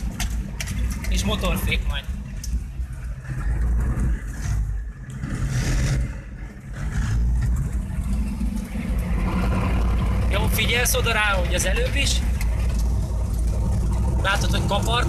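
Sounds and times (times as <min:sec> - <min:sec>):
truck engine: 0:00.0 - 0:15.0.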